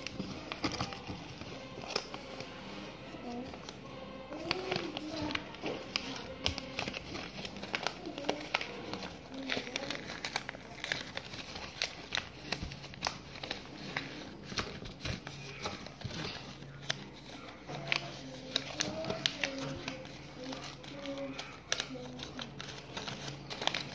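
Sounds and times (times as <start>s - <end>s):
paper crinkling: 0.0s - 23.9s.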